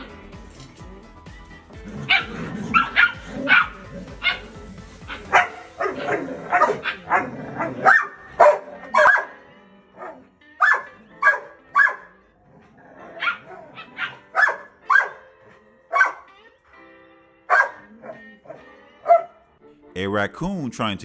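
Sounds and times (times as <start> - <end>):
dogs barking: 1.8 - 19.5.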